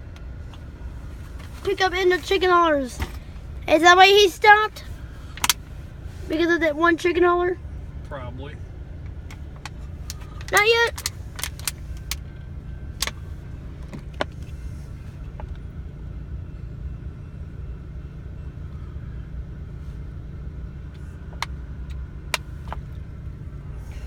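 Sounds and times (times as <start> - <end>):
vehicle rumble inside car: 0.0 - 24.0.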